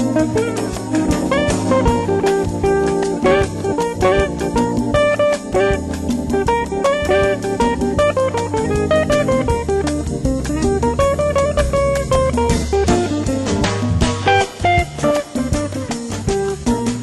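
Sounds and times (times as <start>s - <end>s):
bass and drums: 0.0s - 17.0s
plucked guitar melody: 0.0s - 17.0s.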